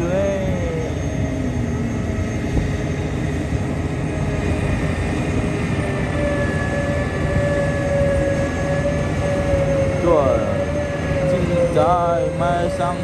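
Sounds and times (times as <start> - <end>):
diesel machinery rumble: 0.0 - 13.0
faint machine whines: 0.0 - 13.0.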